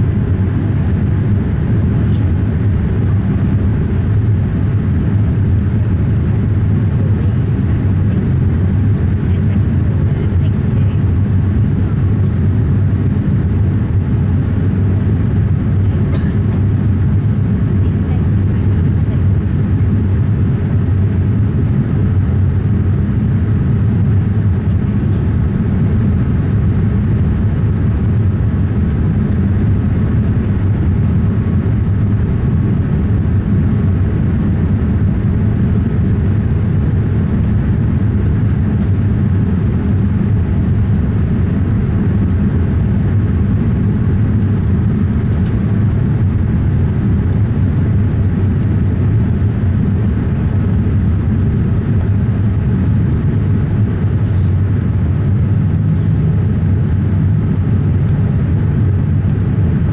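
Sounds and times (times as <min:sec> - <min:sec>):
aircraft cabin airflow and engine hum: 0:00.0 - 0:59.9.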